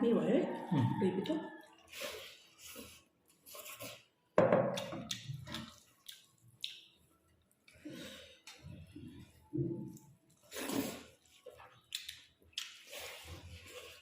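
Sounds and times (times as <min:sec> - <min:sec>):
wet chewing and smacking: 0:01.2 - 0:14.0.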